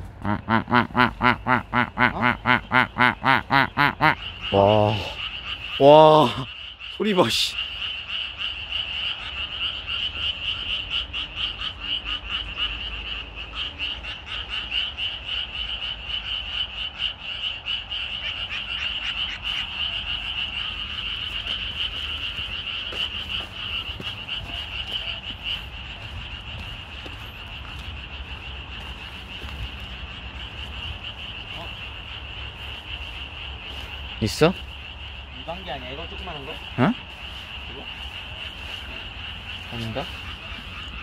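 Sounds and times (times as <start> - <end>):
chorus of frogs calling: 0.0 - 41.0.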